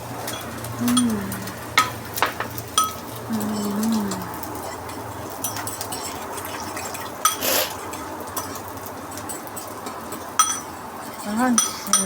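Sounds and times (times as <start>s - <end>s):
utensils clinking on cookware: 0.2s - 12.0s.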